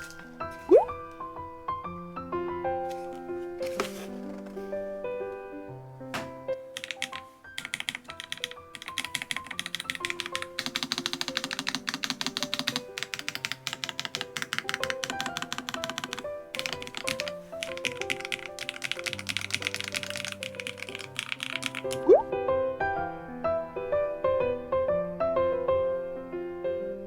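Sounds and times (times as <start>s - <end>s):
background music: 0.0s - 27.0s.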